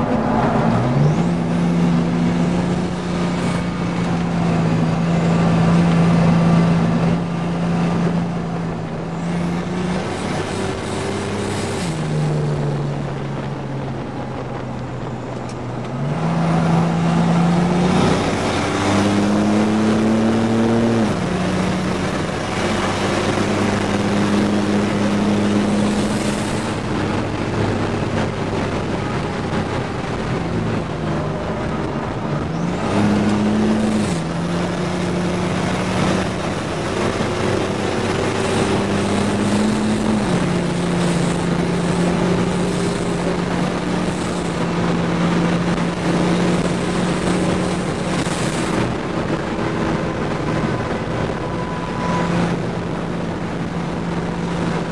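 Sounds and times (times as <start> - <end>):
engine at speed from inside cab: 0.0 - 54.9
road and wind noise: 0.0 - 54.9.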